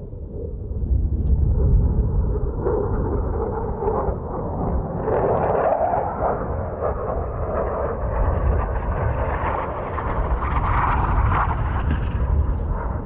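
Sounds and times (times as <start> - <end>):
distant jet roar: 0.0 - 13.0
wind rumble on microphone: 0.0 - 13.0.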